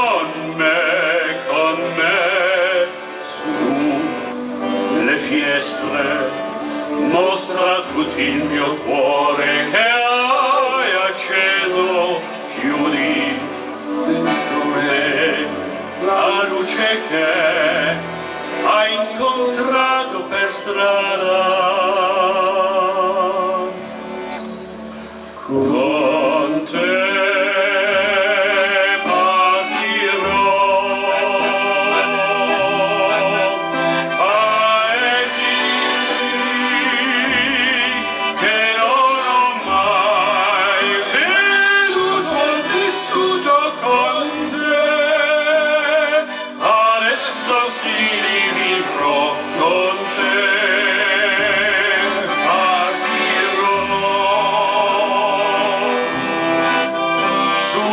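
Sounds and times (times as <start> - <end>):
man singing into a microphone: 0.0 - 23.8, 25.4 - 56.2, 57.5 - 57.9
accordion playing: 0.0 - 57.9.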